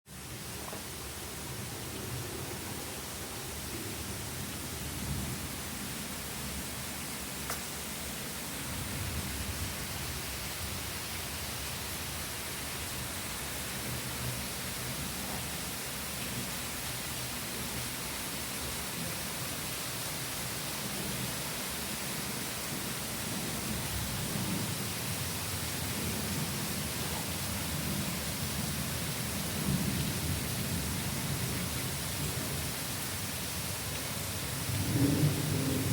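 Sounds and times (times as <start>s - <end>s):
steady rain falling: 0.1s - 35.9s.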